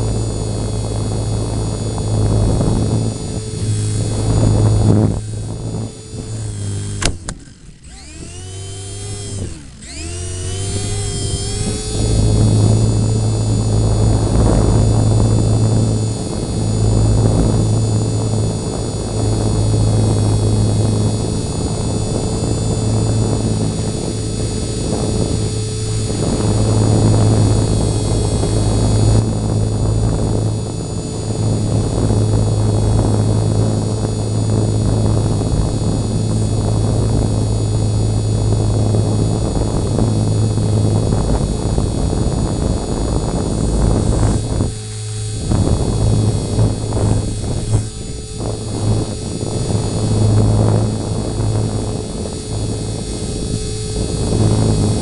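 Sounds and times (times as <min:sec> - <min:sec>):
electric motor humming and whining: 0:00.0 - 0:55.0.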